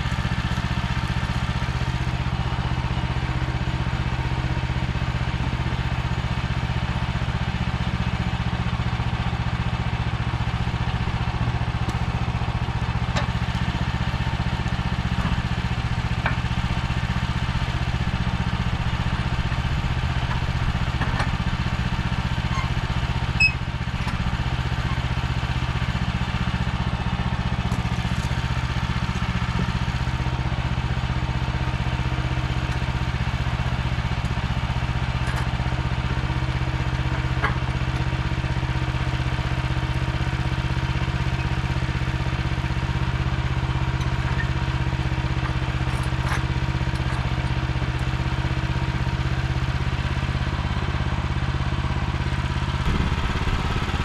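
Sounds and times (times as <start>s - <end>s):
sawmill engine idling: 0.0s - 54.0s.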